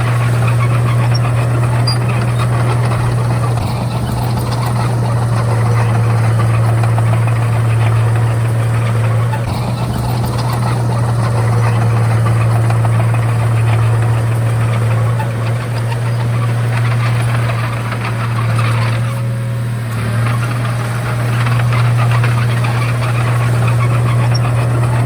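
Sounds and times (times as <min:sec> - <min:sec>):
diesel engine running: 0:00.0 - 0:25.0
fast rattle: 0:00.0 - 0:25.0.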